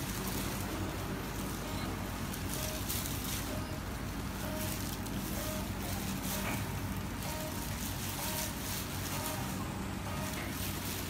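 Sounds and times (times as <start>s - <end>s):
machine whir: 0.0s - 11.0s.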